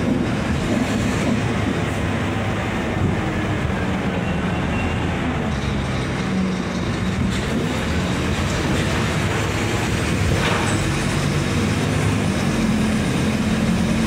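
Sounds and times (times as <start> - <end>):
bus diesel engine droning: 2.1 - 14.0.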